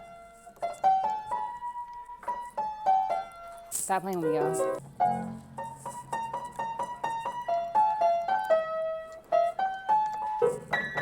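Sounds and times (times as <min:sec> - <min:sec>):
keyboard playing simple melody: 0:00.0 - 0:11.0.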